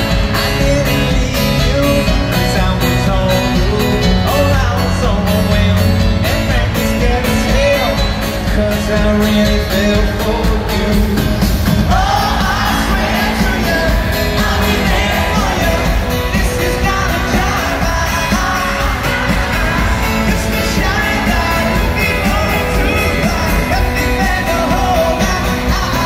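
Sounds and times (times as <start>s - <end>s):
live pop-rock band playing: 0.0s - 26.0s
man singing lead vocal: 0.0s - 26.0s.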